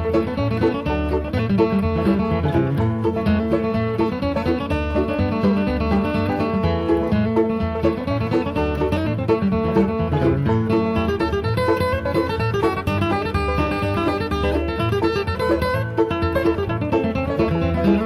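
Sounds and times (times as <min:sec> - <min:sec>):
bluegrass banjo and guitar music: 0:00.0 - 0:18.0.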